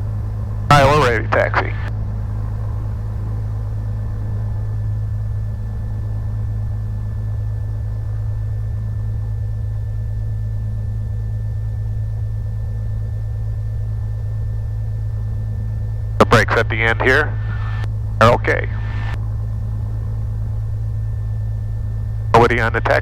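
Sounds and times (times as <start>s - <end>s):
aircraft engine and propeller running: 0.0s - 23.0s.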